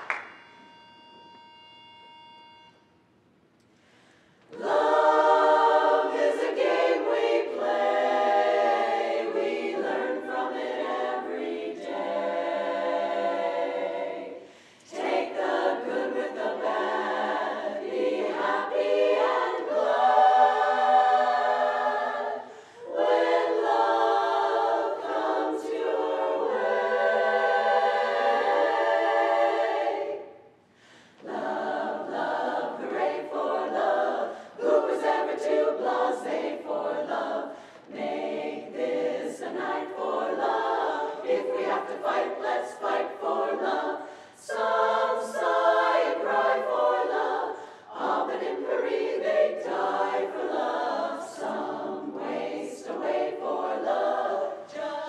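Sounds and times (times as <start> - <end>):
women's chorus singing a cappella: 4.3 - 55.0.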